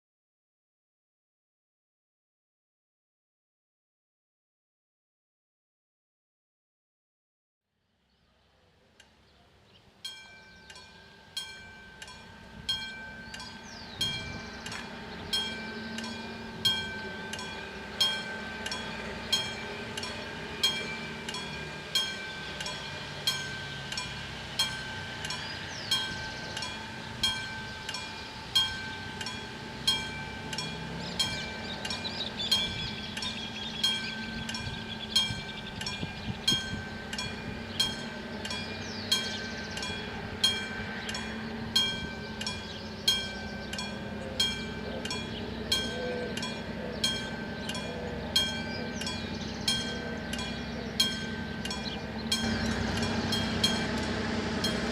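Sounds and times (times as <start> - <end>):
diesel locomotive engine drone: 8.4 - 54.9
warning bell ringing: 10.0 - 54.9.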